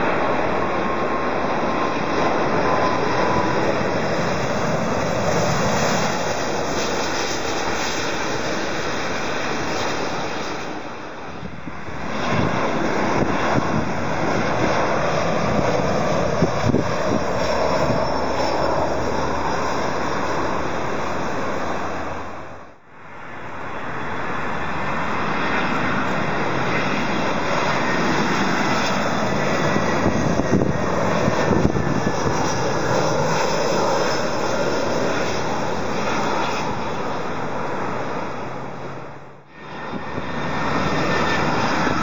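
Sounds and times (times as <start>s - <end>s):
airliner jet engine noise: 0.0s - 42.0s.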